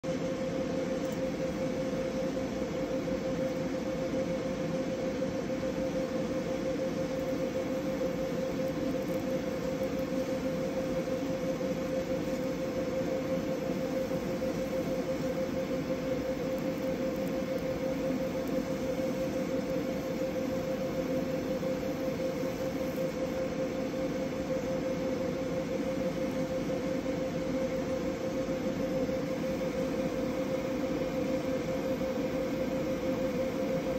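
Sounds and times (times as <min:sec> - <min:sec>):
laser engraver humming: 0:00.1 - 0:33.9.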